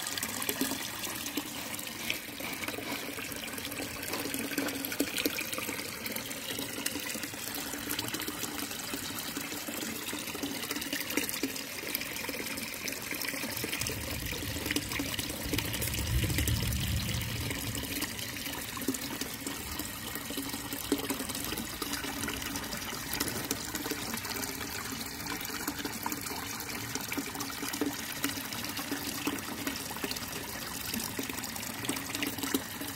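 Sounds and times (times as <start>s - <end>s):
pond water trickling and bubbling: 0.0s - 32.9s.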